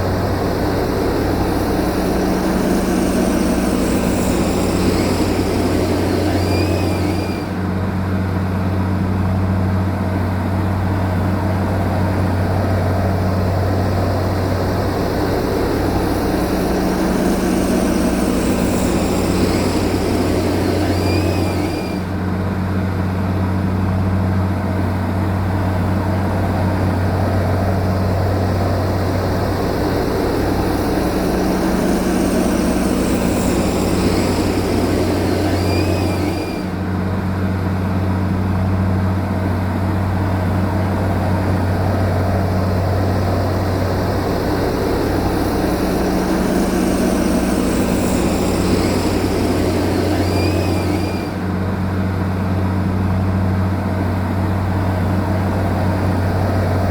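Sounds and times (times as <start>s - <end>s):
heavy diesel engine droning: 0.0s - 56.9s.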